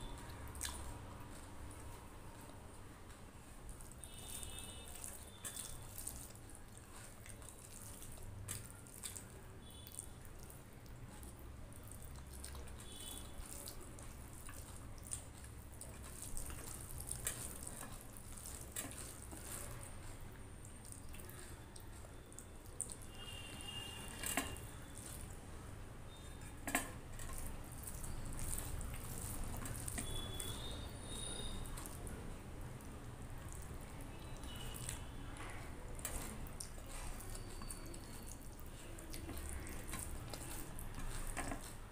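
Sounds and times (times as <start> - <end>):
hand squishing rice: 0.0 - 41.9.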